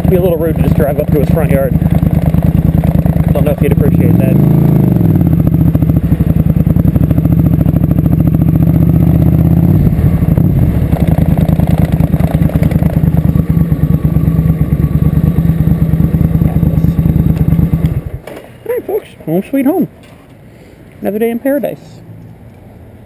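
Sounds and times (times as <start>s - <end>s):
motorcycle engine running: 0.0s - 18.8s.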